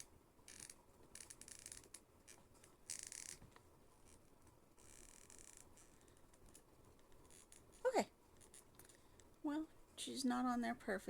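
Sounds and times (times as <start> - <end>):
faint scraping and rubbing: 0.0 - 9.4.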